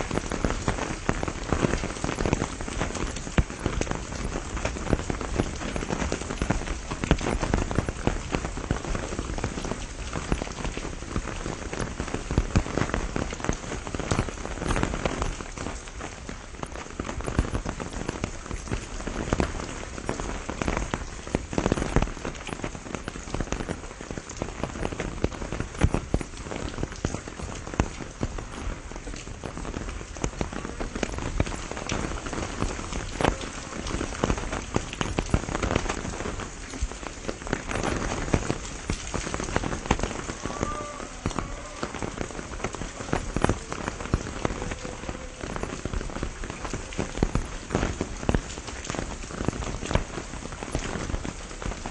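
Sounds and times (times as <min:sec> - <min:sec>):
raindrops ticking close by: 0:00.0 - 0:51.9
steady rain hiss: 0:00.0 - 0:51.9.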